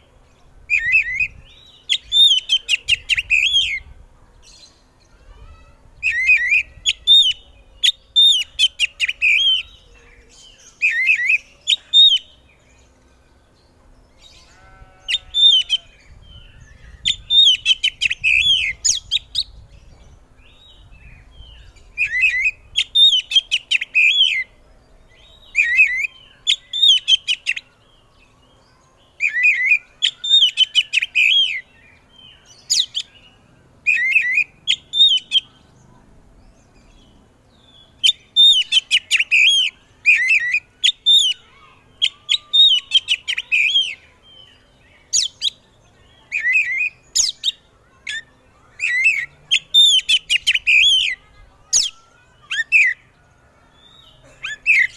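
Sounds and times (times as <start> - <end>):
bird singing whistled notes: 0.7 - 3.9, 6.0 - 12.8, 14.8 - 35.7, 36.5 - 54.9.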